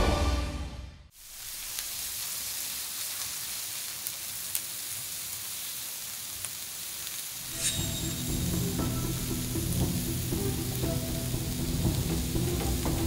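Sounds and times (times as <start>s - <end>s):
meat sizzling on a griddle: 1.1s - 13.0s.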